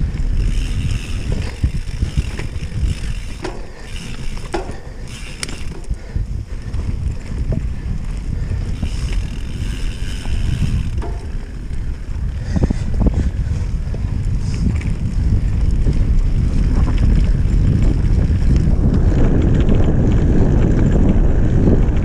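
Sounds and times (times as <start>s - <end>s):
bike rattling over bumpy ground: 0.0s - 22.0s
bike tyre rumble: 0.0s - 22.0s
wind rushing over microphone: 0.0s - 22.0s.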